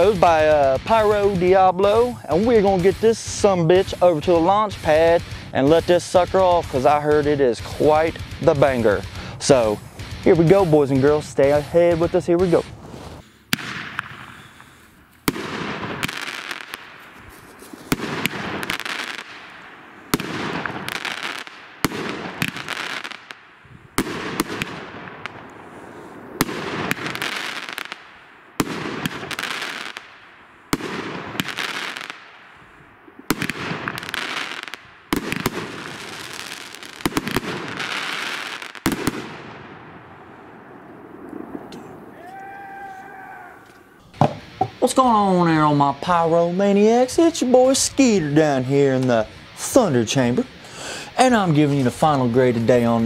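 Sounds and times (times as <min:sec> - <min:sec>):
firework bangs: 0:00.0 - 0:53.0
hissing from firework bursts: 0:00.0 - 0:53.0.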